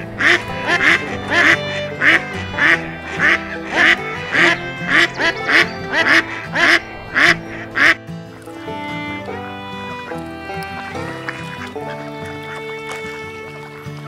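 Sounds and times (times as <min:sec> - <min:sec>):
background music: 0:00.0 - 0:14.0
duck quacking: 0:00.0 - 0:14.0.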